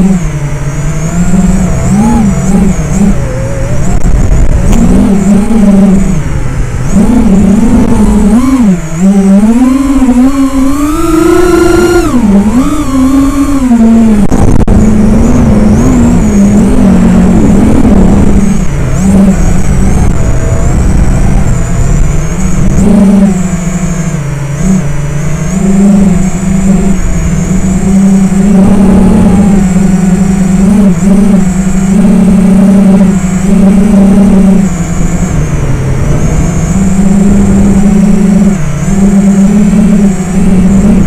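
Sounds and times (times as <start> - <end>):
quadcopter motors buzzing: 0.0 - 41.0.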